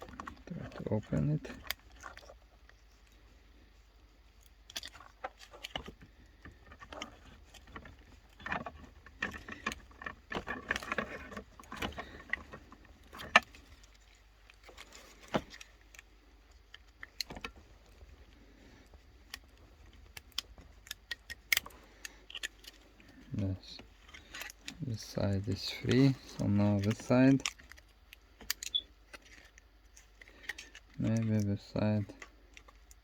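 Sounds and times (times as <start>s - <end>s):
clicks scraping and rattling of casing: 4.3s - 33.0s.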